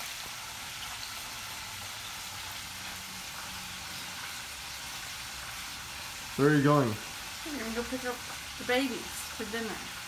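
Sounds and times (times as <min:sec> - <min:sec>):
chicken wings sizzling in oil: 0:00.0 - 0:10.0.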